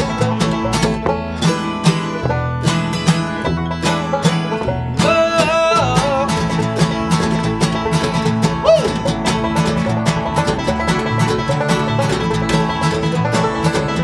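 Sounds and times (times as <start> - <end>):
banjo picking: 0.0 - 14.0
bluegrass band playing: 0.0 - 14.0.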